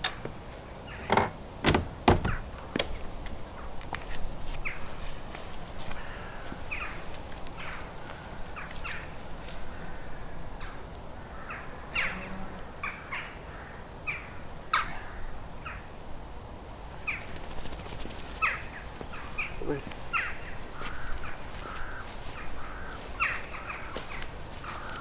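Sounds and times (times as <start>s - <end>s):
birds calling: 0.0s - 3.9s, 5.9s - 25.0s.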